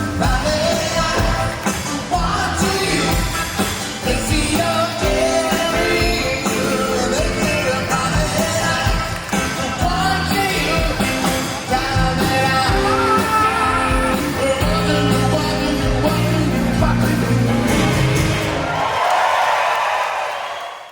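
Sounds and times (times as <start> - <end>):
lead vocal singing: 0.0 - 18.7
soft rock band playing: 0.0 - 19.0.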